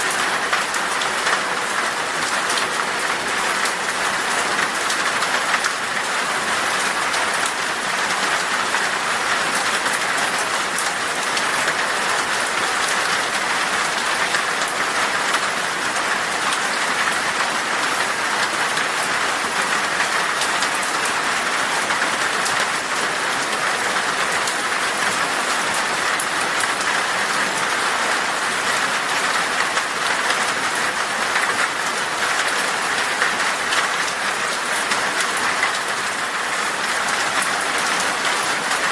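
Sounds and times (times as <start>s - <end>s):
heavy rain on glass: 0.0s - 38.9s.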